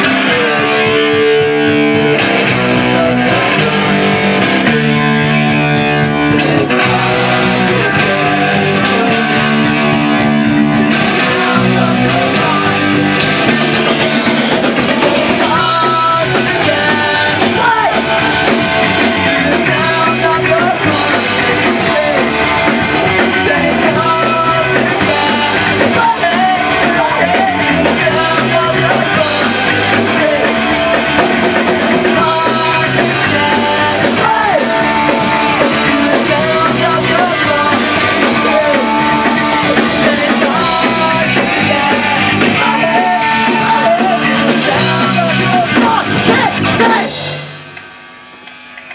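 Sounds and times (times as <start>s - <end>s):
person singing: 0.0s - 47.5s
distorted electric guitar: 0.0s - 48.9s
drums: 0.0s - 48.9s
punk rock band playing: 0.0s - 48.9s.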